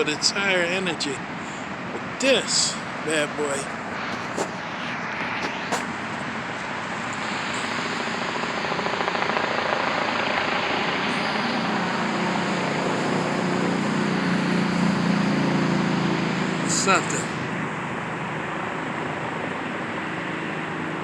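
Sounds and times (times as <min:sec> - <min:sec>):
road traffic rush: 0:00.0 - 0:21.0.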